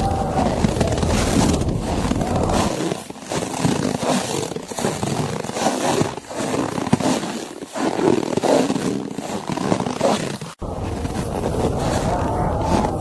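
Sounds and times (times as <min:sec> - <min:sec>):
footsteps crunching through snow: 0:00.0 - 0:13.0.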